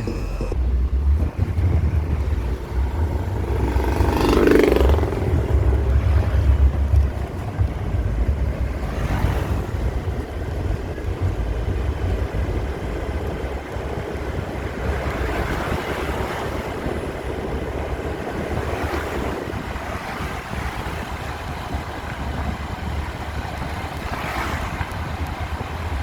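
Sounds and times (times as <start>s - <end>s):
traffic engine noise: 0.0s - 26.0s
vehicle passing: 0.0s - 26.0s
wind rumbling on microphone: 0.0s - 26.0s.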